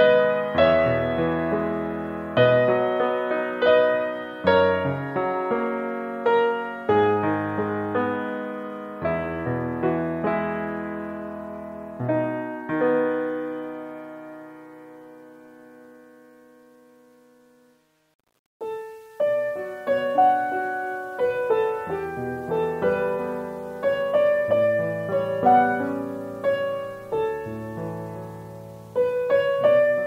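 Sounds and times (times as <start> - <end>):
piano music: 0.0 - 17.8, 18.6 - 30.0.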